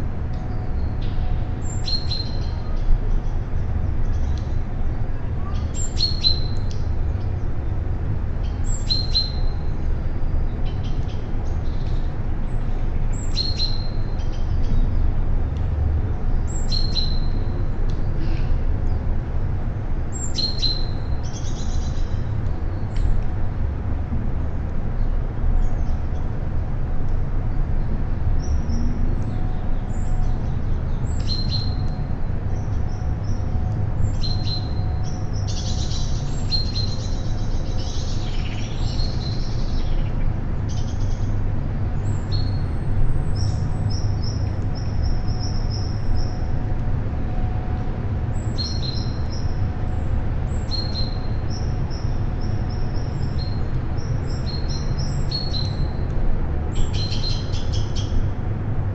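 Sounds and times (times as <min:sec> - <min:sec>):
steady low rumble: 0:00.0 - 0:58.9.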